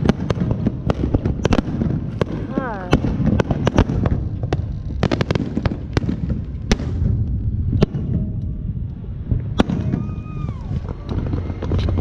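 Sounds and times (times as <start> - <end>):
fireworks bangs and pops: 0.0 - 12.0
low rumble: 0.0 - 12.0.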